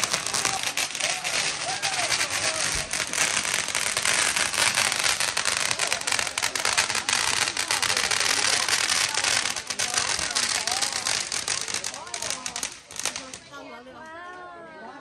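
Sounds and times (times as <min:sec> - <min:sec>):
fireworks crackling and popping: 0:00.0 - 0:13.9.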